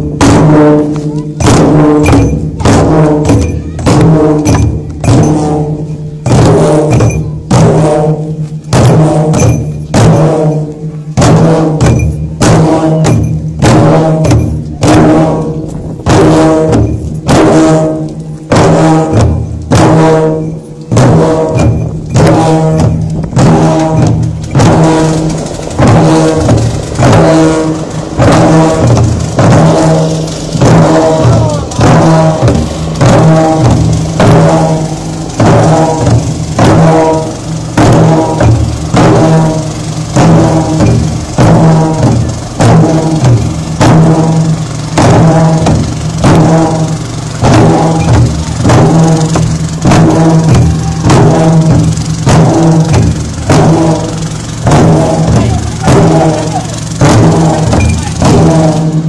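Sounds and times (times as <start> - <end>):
barrel drums beaten in rhythm: 0.0 - 59.0.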